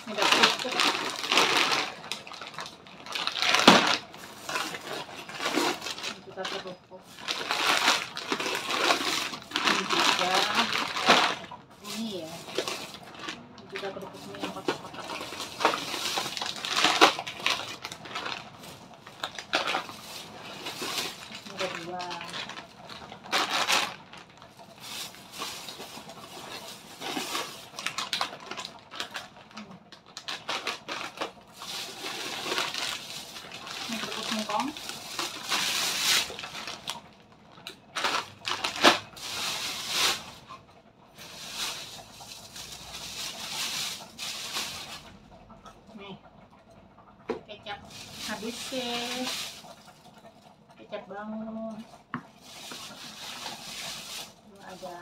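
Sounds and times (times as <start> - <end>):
plastic bags rustling: 0.0 - 45.2, 47.7 - 50.4, 51.6 - 55.0
plastic packets crinkling: 0.0 - 45.2, 47.8 - 50.3, 52.2 - 55.0.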